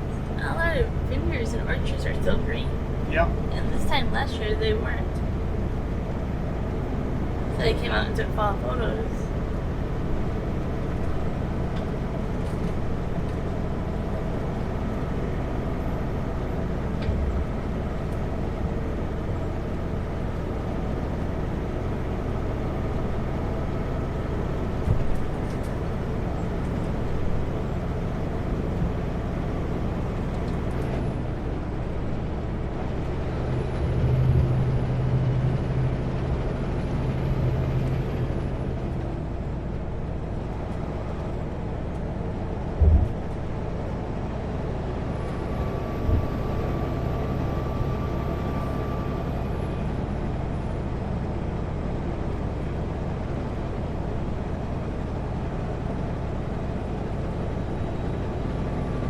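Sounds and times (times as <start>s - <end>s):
road noise: 0.0s - 59.0s
truck diesel engine running: 0.0s - 59.0s.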